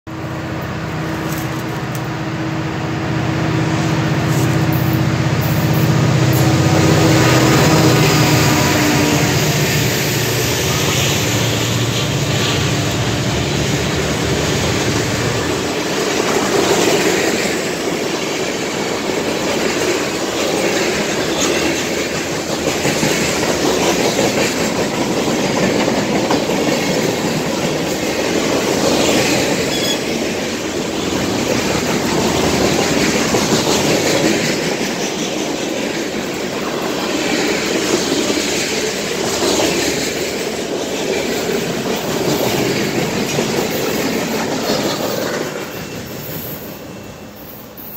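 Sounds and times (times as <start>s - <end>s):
diesel locomotive engines humming: 0.1s - 47.9s.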